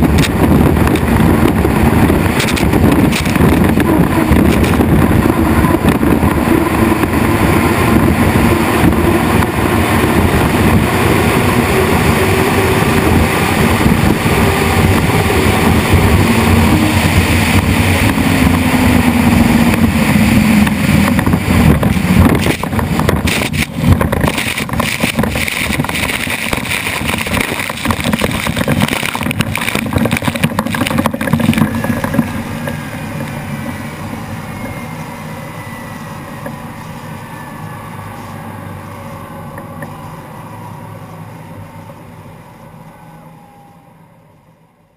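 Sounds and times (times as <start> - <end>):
hydroplane turbine engines roaring: 0.0 - 44.9.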